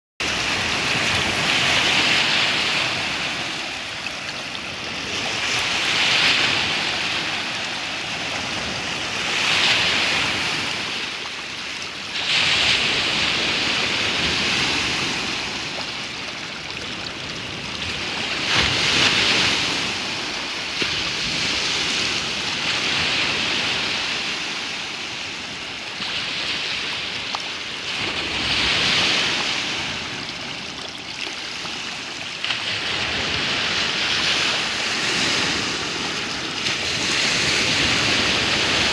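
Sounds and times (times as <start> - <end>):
waves washing onto shore: 0.2 - 38.9.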